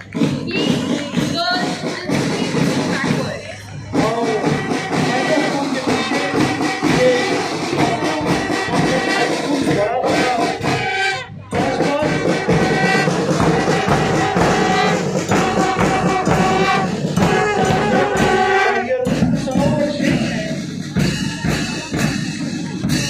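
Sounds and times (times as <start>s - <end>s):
bass drum: 0.0s - 23.0s
marching band brass: 0.0s - 23.0s.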